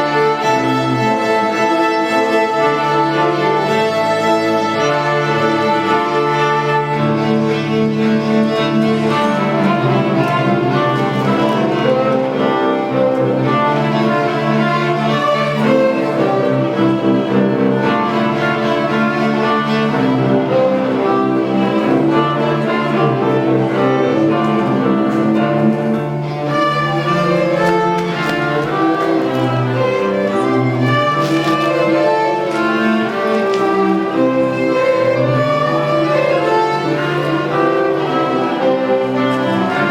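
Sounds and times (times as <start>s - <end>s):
string ensemble playing: 0.0s - 39.9s
sustained low string notes: 0.0s - 39.9s.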